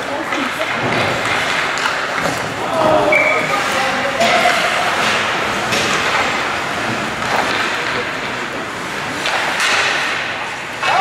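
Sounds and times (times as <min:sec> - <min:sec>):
hockey sticks clacking puck: 0:00.0 - 0:11.0
skates scraping ice: 0:00.0 - 0:11.0.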